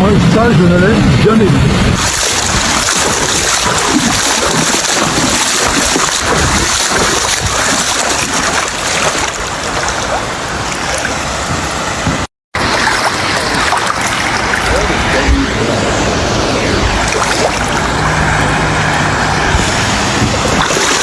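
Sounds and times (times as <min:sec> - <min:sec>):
floodwater rushing: 0:01.5 - 0:21.0.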